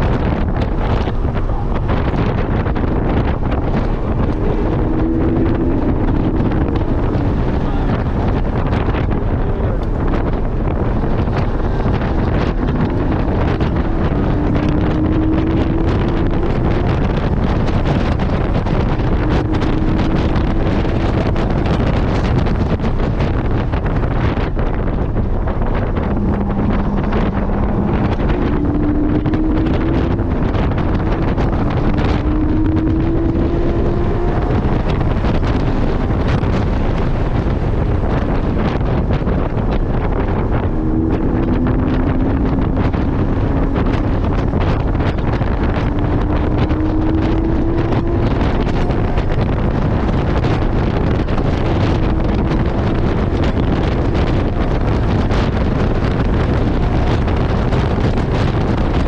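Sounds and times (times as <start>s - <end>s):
car engine revving: 0.0s - 59.0s
wind and road noise: 0.0s - 59.0s.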